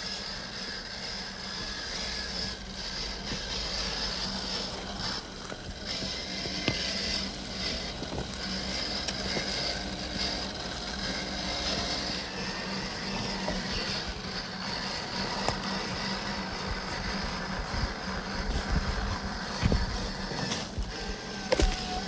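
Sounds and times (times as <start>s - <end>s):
electric motor whirring: 0.0s - 22.0s.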